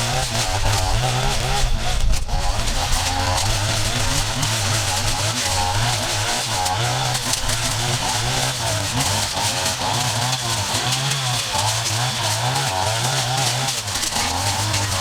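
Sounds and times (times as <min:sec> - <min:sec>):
small petrol engines revving: 0:00.0 - 0:15.0.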